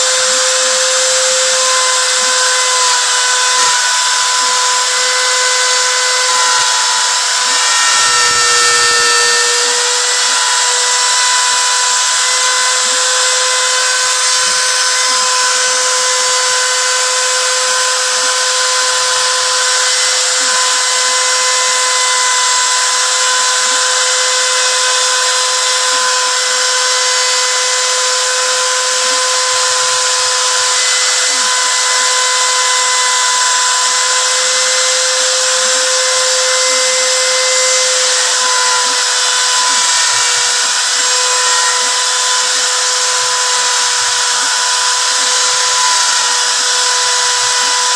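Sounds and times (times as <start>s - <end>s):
router spindle whining: 0.0s - 47.9s.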